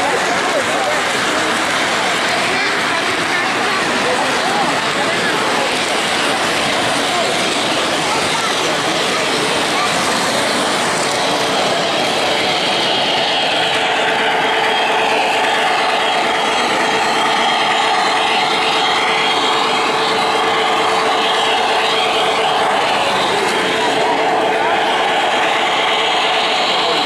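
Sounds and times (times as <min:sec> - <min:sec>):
background chatter: 0:00.0 - 0:27.0
model train rolling: 0:00.0 - 0:27.0.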